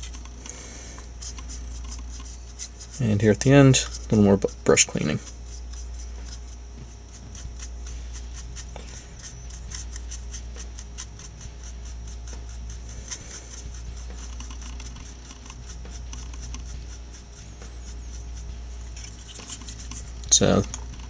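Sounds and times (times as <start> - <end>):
paintbrush scratching on plastic: 0.0 - 21.0
steady low hum: 0.0 - 21.0.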